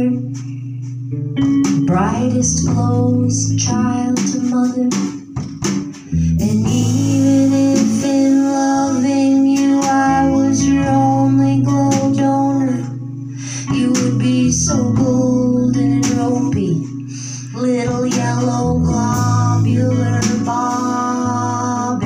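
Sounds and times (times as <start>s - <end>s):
woman singing: 0.0s - 0.4s, 1.8s - 5.4s, 6.3s - 22.0s
drum kit and cymbals: 0.0s - 12.3s, 13.4s - 22.0s
archtop guitar: 0.0s - 22.0s.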